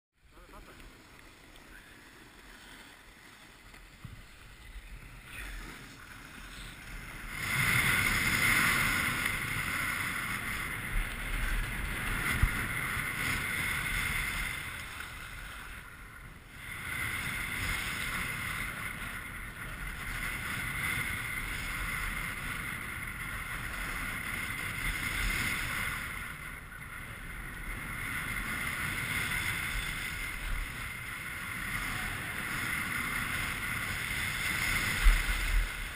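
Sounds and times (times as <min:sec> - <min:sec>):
skis scraping over snow: 0:00.3 - 0:16.0, 0:16.7 - 0:35.9
wind on microphone: 0:04.0 - 0:35.9.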